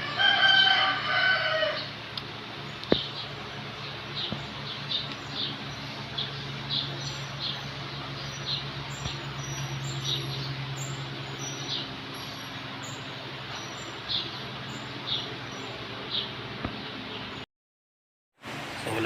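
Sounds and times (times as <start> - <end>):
steady low hum: 0.0 - 17.5
small birds chirping: 1.5 - 17.4.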